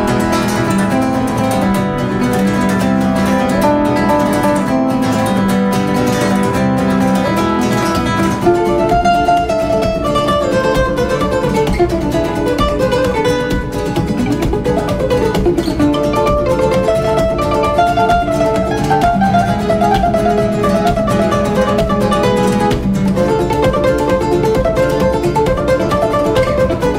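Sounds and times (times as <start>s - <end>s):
flamenco-style acoustic guitar: 0.0s - 26.9s.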